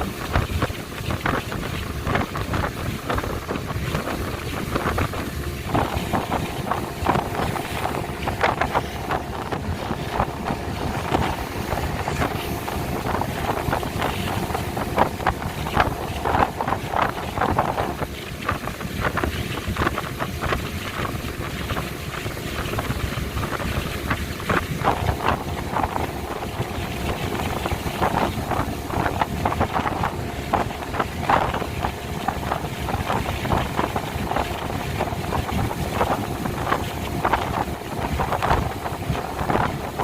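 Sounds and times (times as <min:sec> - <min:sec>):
speedboat engine drone: 0:00.0 - 0:40.0
water splashes: 0:00.0 - 0:40.0
wind buffeting microphone: 0:00.0 - 0:40.0.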